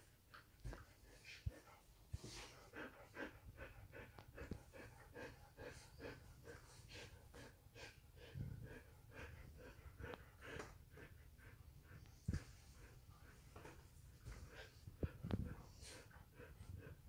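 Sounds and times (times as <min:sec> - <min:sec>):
puppy snuffling breaths: 0:00.7 - 0:17.0.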